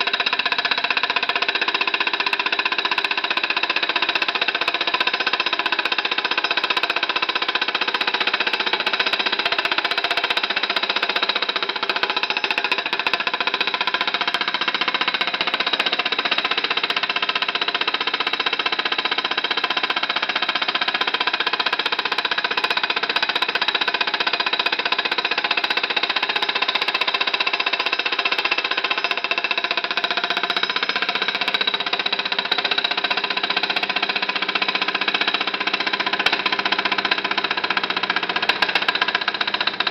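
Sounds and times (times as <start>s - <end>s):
small engine rattling buzz: 0.0s - 39.9s.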